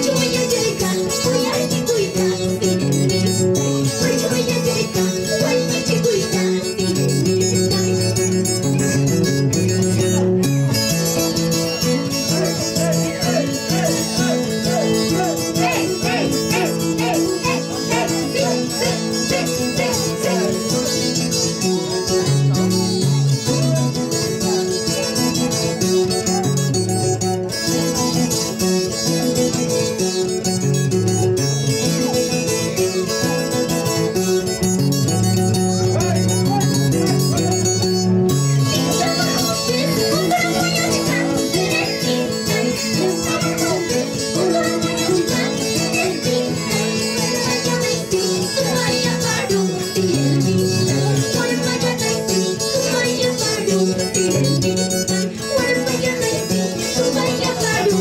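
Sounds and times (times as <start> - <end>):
plucked guitar melody: 0.0 - 58.0
steady bass line: 2.4 - 33.1, 34.0 - 52.2.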